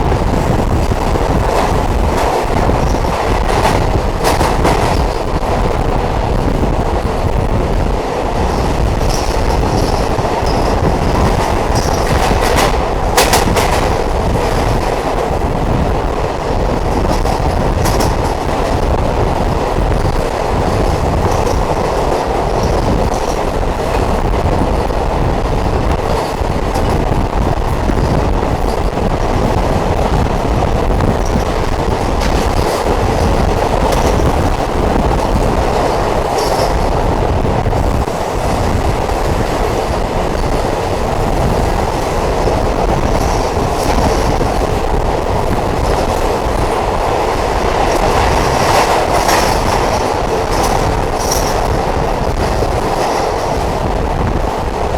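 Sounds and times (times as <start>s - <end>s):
train wheels on rail: 0.0s - 54.9s.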